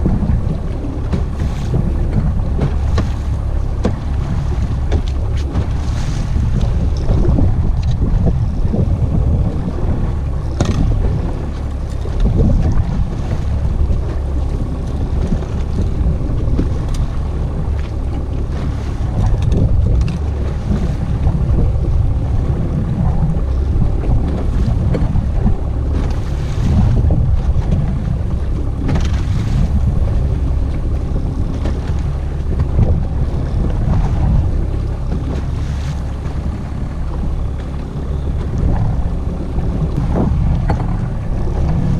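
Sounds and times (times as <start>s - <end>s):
water rushing along hull: 0.0s - 41.9s
water splashes: 0.0s - 41.9s
wind buffeting microphone: 0.0s - 41.9s.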